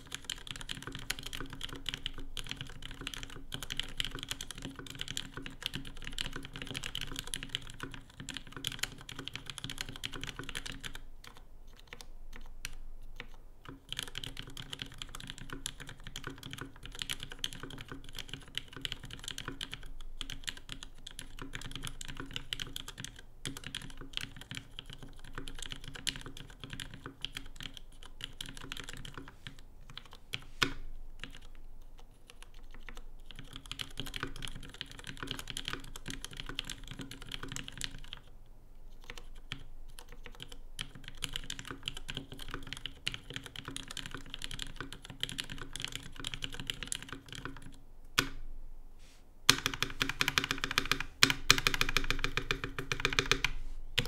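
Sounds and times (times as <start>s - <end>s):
mechanical keyboard typing: 0.0s - 38.3s, 38.9s - 48.4s, 49.5s - 54.0s.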